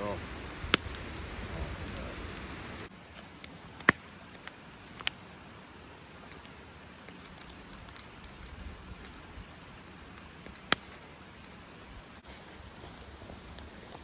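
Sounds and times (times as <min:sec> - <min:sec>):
campfire crackling and popping: 0:00.0 - 0:14.0
steak sizzling hiss: 0:00.0 - 0:14.0.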